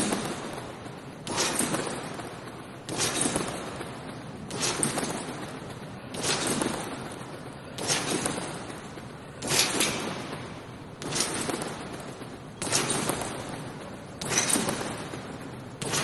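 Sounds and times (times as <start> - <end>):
trampoline bouncing: 0.0 - 16.0.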